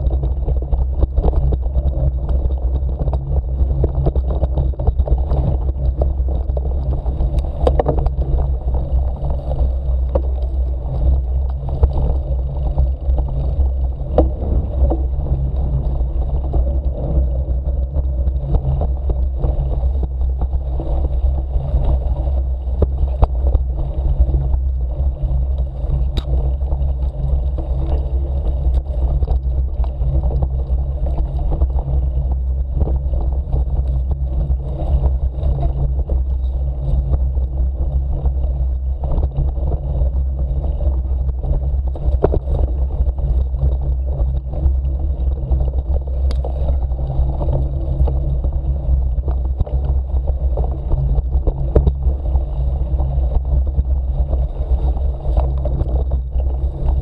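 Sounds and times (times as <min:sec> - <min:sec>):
bike tyres rumbling on dirt: 0:00.0 - 0:57.0.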